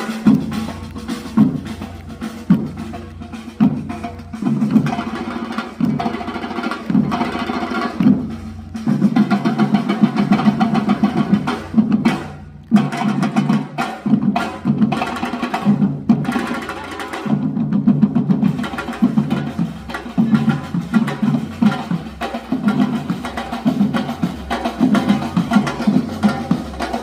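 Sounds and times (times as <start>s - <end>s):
percussion ensemble drumming: 0.0s - 27.0s.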